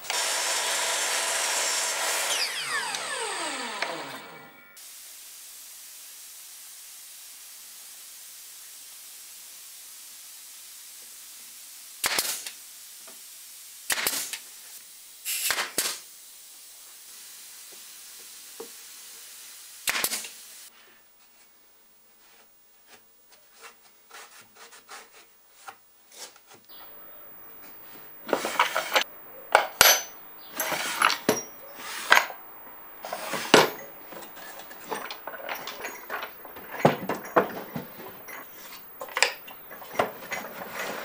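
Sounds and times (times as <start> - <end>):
steady background hiss: 2.3 - 24.1, 25.2 - 41.0.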